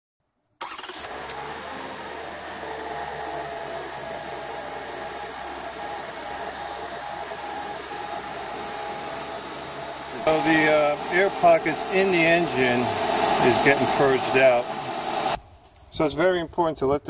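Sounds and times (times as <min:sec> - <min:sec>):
car engine idling: 0:00.6 - 0:15.4.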